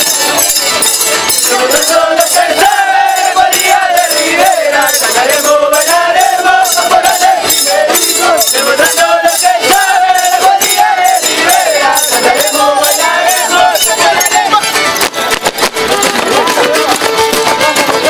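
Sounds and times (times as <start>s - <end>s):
violin melody: 0.0s - 8.5s, 9.2s - 18.0s
hand bells jingling: 0.0s - 18.0s.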